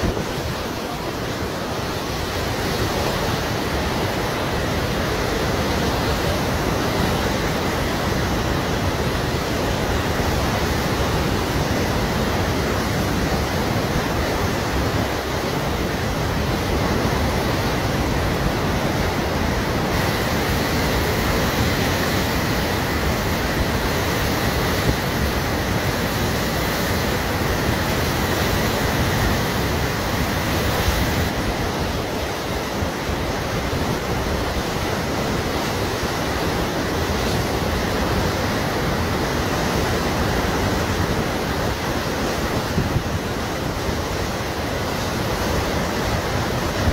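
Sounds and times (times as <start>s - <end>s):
floodwater rushing: 0.0s - 46.9s.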